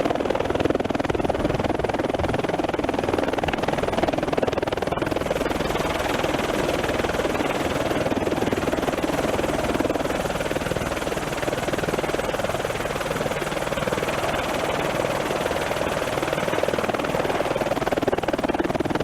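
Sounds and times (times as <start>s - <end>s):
helicopter rotor pulsing: 0.0s - 19.0s.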